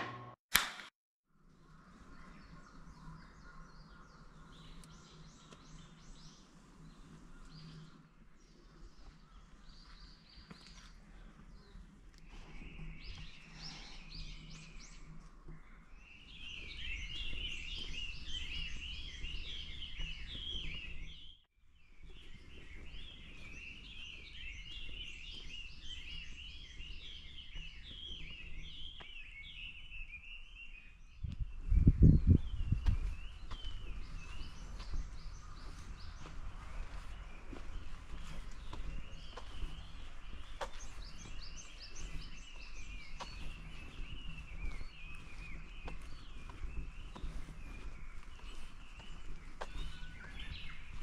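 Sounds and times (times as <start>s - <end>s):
small birds chirping: 1.5s - 51.0s.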